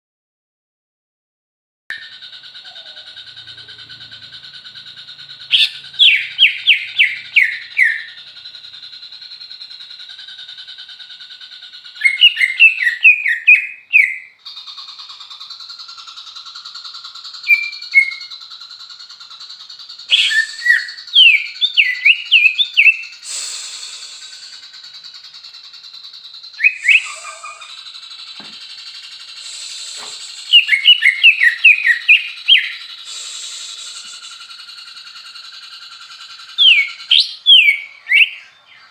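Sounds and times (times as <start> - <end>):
bird singing whistled notes: 1.9 - 38.9.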